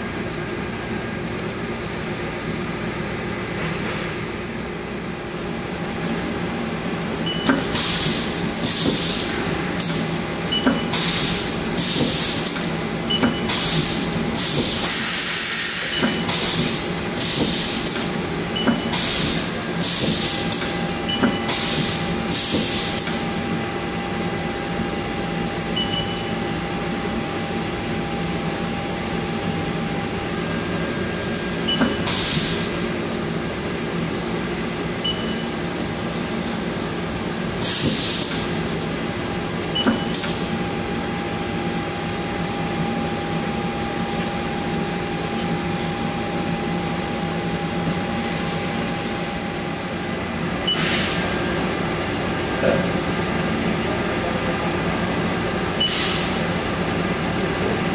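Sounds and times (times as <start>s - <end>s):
machine hum with faint whine: 0.0s - 57.9s.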